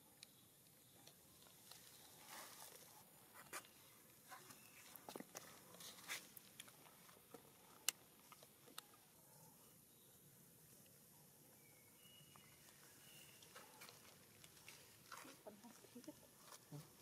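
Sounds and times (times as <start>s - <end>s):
faint clicks and rustles: 0.1s - 9.8s, 12.3s - 17.0s.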